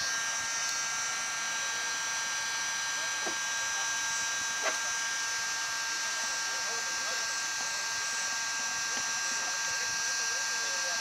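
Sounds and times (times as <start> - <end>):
heat gun motor whine: 0.0 - 11.0.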